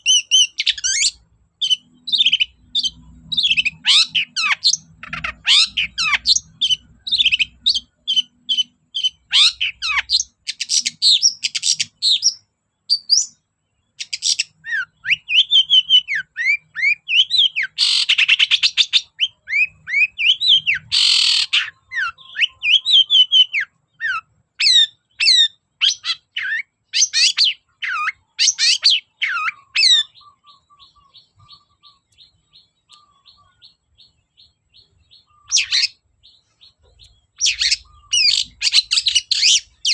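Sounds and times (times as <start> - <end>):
bird singing chirps and whistles: 0.0 - 39.9
harsh rasping bird calls: 0.0 - 39.9.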